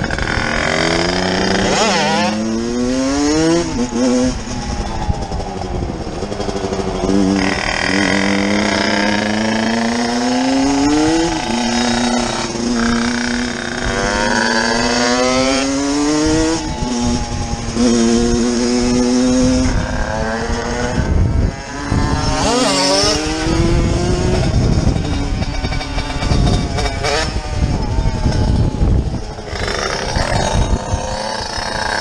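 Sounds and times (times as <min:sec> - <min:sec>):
motorcycle engine revving through gears: 0:00.0 - 0:32.0.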